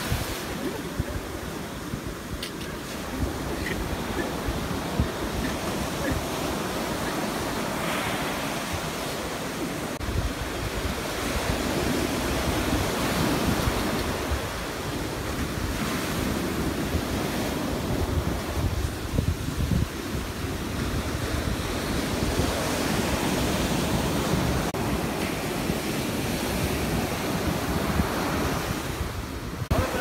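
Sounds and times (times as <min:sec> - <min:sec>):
ocean surf breaking: 0:00.0 - 0:30.0
wind buffeting microphone: 0:00.0 - 0:30.0.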